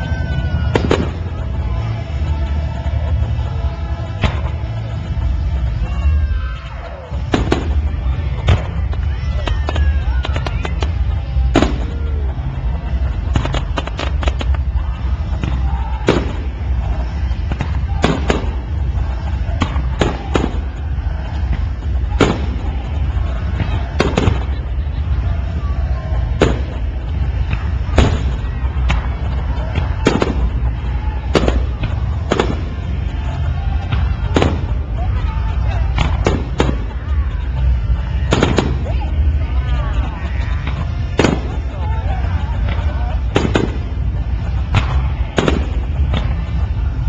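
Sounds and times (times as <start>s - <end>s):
steady low rumble: 0.0s - 47.0s
fireworks bursting: 0.1s - 1.6s, 7.2s - 12.4s, 13.0s - 25.6s, 26.2s - 39.3s, 40.6s - 47.0s.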